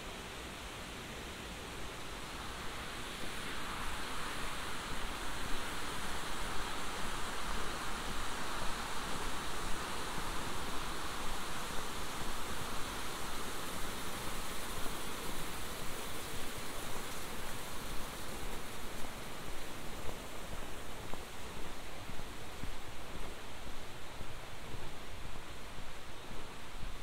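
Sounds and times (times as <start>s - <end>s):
steady rushing outdoor noise: 0.0s - 27.0s.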